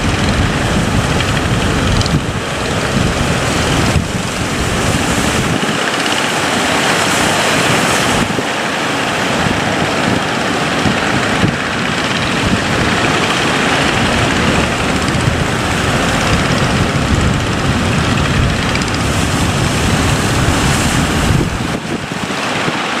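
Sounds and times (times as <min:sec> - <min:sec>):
boat engine running: 0:00.0 - 0:23.0
water moving past hull: 0:00.0 - 0:23.0
wind buffeting microphone: 0:00.0 - 0:23.0.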